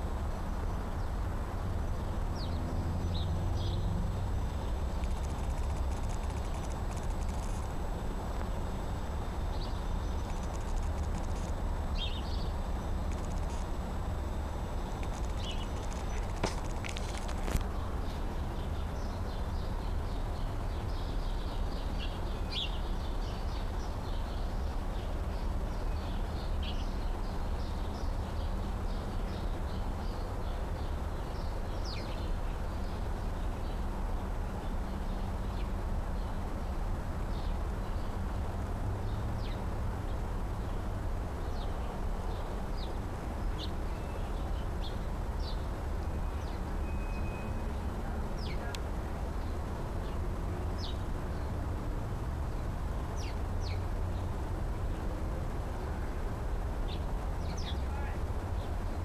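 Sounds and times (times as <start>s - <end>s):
small birds chirping: 2.0s - 36.5s, 39.0s - 50.2s, 50.8s - 51.6s, 52.5s - 56.0s, 56.8s - 59.0s.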